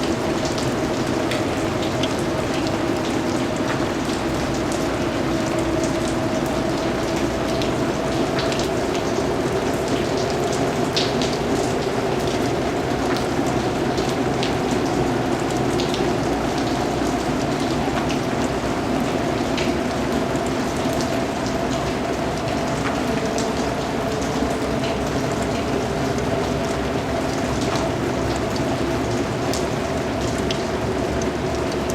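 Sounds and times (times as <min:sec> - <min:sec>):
rain falling: 0:00.0 - 0:31.9.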